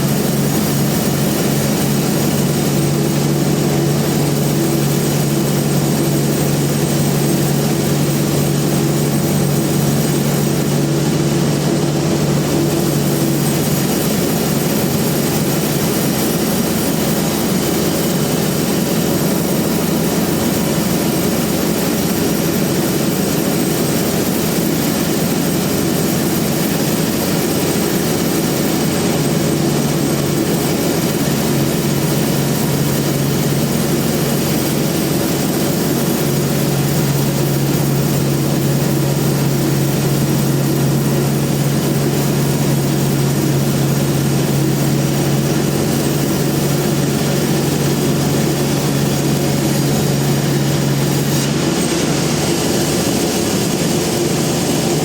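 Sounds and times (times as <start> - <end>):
bandsaw machine hum: 0.0 - 55.0.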